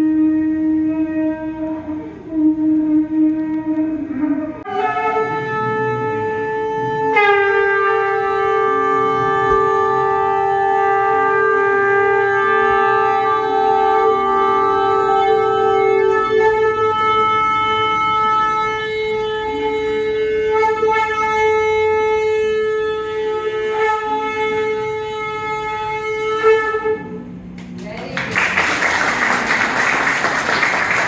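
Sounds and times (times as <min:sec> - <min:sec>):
conch shells blown: 0:00.0 - 0:27.6.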